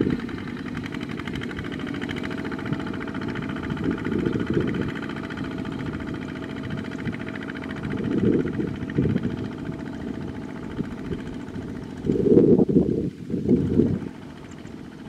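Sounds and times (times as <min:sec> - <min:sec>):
diesel tractor engines running: 0:00.0 - 0:15.0
low rumble: 0:00.0 - 0:15.0.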